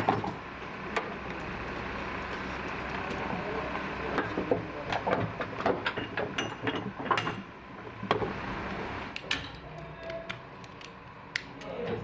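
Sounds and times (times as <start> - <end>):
low machine rumble: 0.0 - 12.0.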